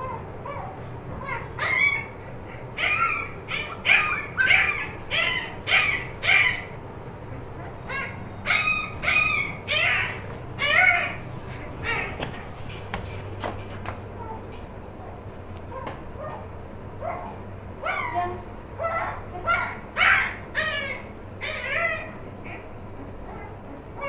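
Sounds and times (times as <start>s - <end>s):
puppy yipping and whining: 0.0s - 6.8s, 7.6s - 12.3s, 15.7s - 24.0s.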